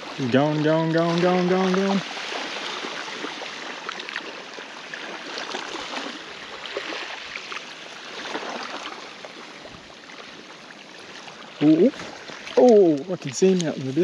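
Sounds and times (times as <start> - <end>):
shallow water lapping: 0.0 - 14.0
small water splashes and trickles: 0.0 - 14.0.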